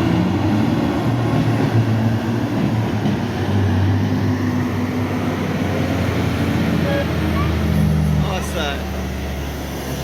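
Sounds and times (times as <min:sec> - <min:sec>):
truck diesel engine passing: 0:00.0 - 0:10.0.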